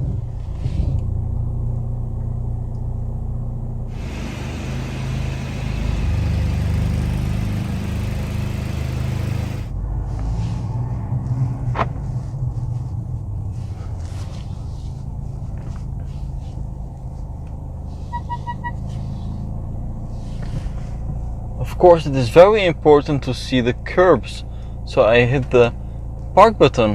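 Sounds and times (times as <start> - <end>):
car engine low rumble: 0.0 - 26.9.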